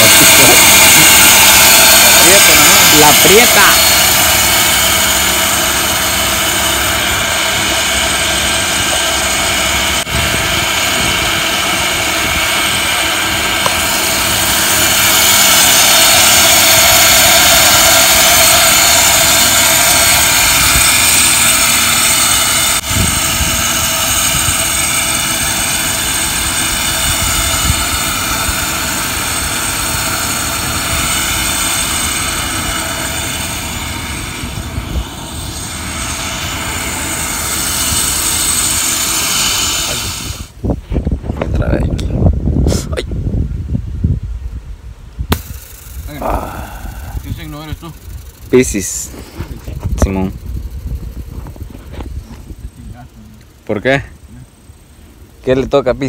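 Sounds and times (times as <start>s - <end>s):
motor winch hauling rope: 0.0s - 41.0s, 45.3s - 56.0s.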